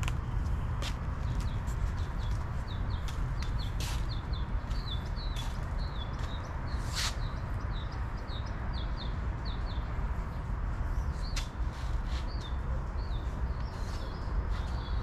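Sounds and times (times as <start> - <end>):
bird chirping: 1.2 - 15.0.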